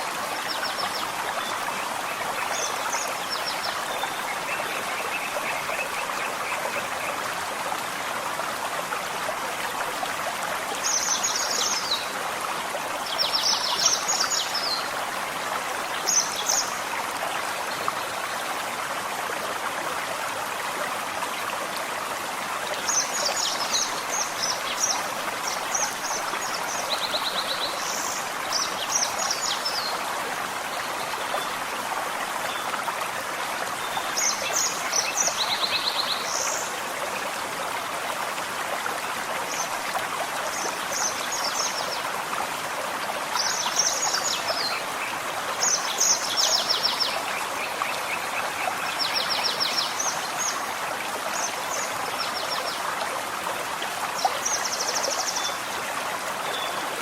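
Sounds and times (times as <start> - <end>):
stream running: 0.0 - 57.0.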